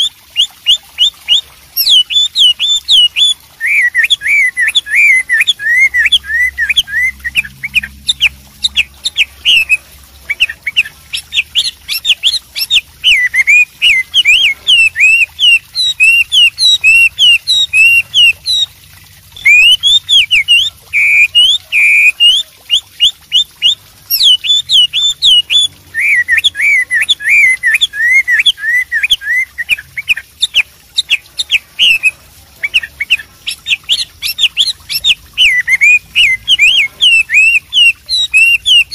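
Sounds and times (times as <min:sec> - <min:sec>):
bird singing whistled phrases: 0:00.0 - 0:18.7, 0:19.4 - 0:38.9.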